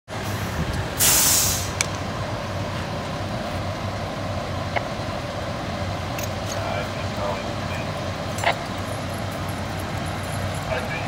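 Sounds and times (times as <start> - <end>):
diesel engine idling: 0.1 - 11.0.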